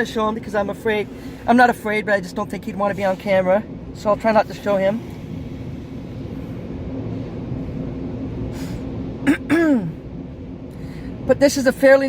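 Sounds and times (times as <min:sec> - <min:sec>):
car wash machinery: 0:00.0 - 0:12.0.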